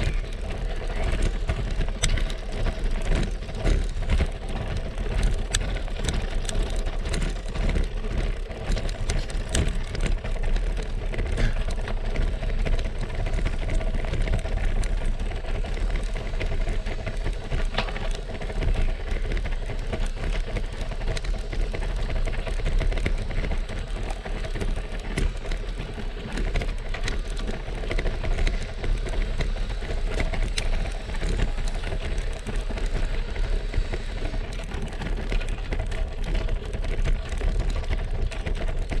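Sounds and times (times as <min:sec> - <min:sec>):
bike rattling over cobbles: 0:00.0 - 0:39.0.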